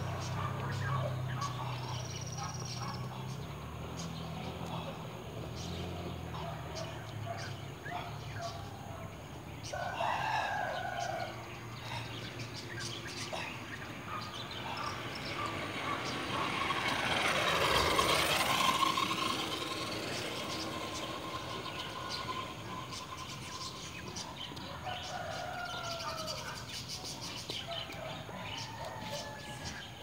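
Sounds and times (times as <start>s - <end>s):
electric scooter passing: 0.0s - 30.0s.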